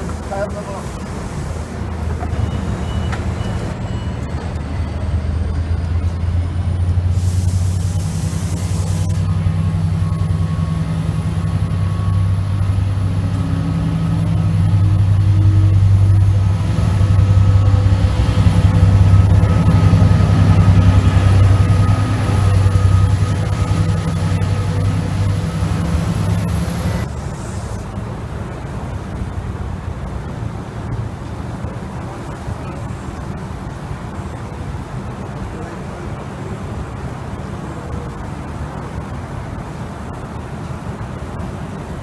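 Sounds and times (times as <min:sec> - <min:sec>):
deep locomotive engine drone: 0:00.0 - 0:42.0
passenger train passing: 0:00.0 - 0:42.0.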